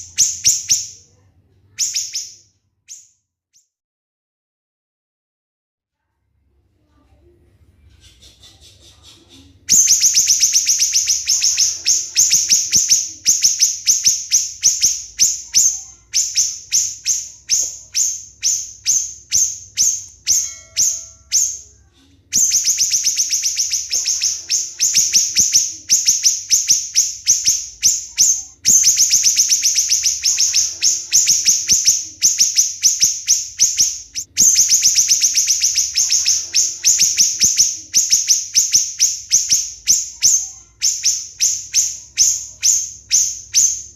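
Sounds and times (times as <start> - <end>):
songbird singing rapid shrill notes: 0.0 - 1.0, 1.8 - 3.1, 9.7 - 21.7, 22.3 - 43.9.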